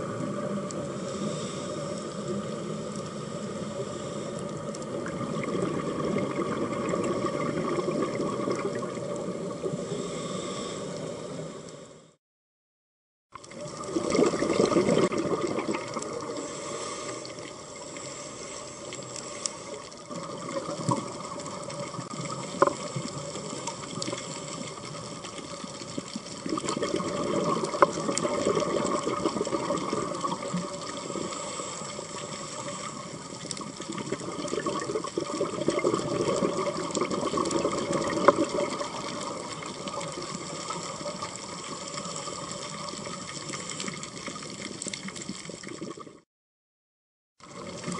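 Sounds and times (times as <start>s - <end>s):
underwater water noise: 0.0s - 12.2s, 13.3s - 46.2s, 47.4s - 47.9s
bubbling: 4.4s - 10.6s, 13.4s - 46.2s, 47.4s - 47.9s.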